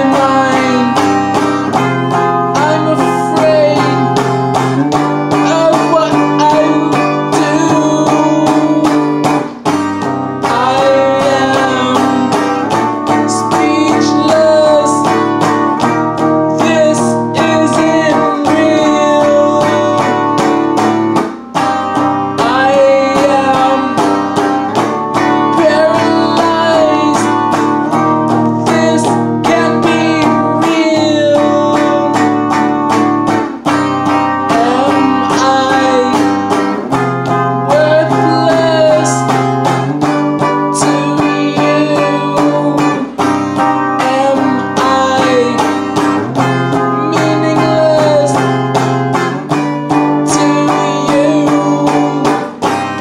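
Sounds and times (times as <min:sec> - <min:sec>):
electric guitar strumming: 0:00.0 - 0:53.0
man singing: 0:00.0 - 0:53.0.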